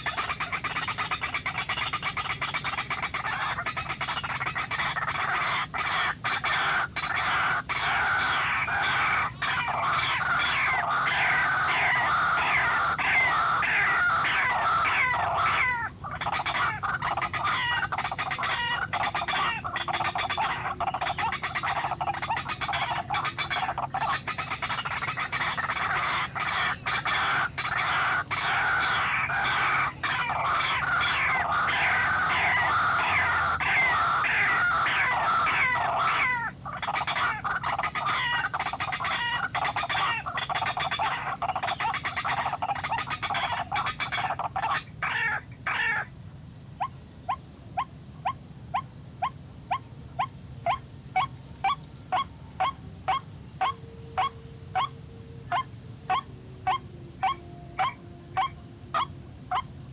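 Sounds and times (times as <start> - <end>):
waterhens calling harshly: 0.0 - 46.2, 46.8 - 59.9.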